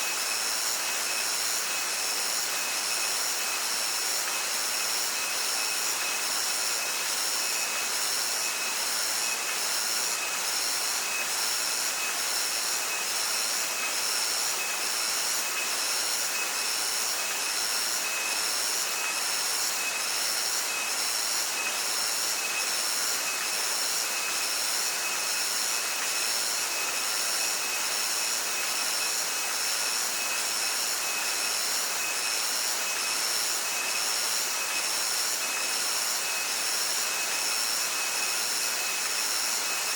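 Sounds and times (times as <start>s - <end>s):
cicadas singing: 0.1s - 39.9s.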